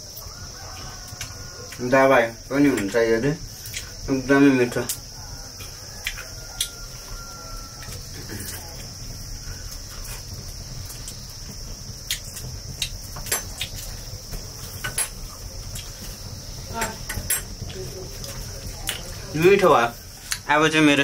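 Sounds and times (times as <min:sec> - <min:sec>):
high-pitched insect chirring: 0:00.0 - 0:21.0.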